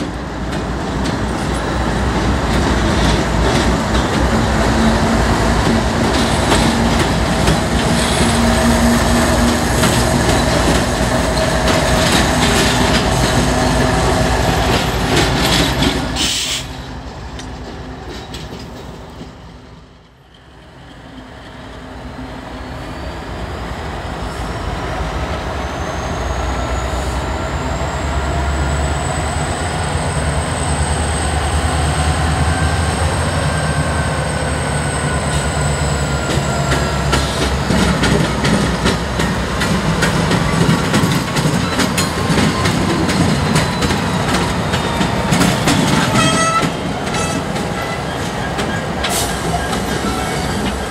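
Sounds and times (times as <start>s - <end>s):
diesel locomotive rumbling past: 0.0s - 50.9s.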